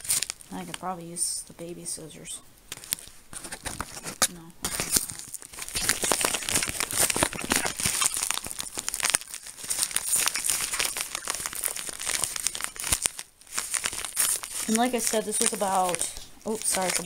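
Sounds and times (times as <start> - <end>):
envelope crinkling and rustling: 0.0 - 0.9, 2.7 - 17.0.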